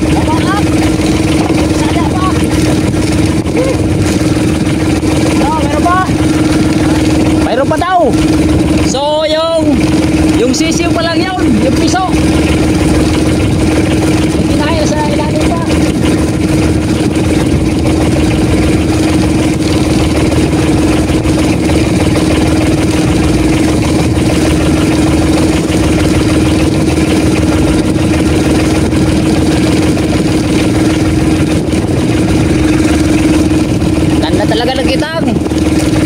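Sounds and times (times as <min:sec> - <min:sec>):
boat engine humming: 0:00.0 - 0:36.0.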